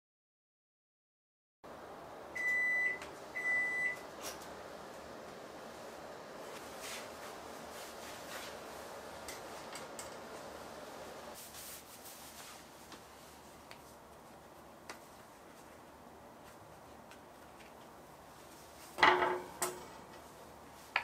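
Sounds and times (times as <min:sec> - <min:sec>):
steady background hum: 0:01.7 - 0:21.0.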